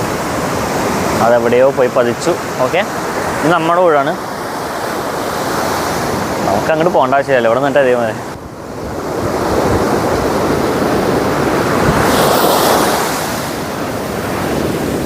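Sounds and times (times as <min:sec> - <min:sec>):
waves washing on shore: 0:00.0 - 0:15.0.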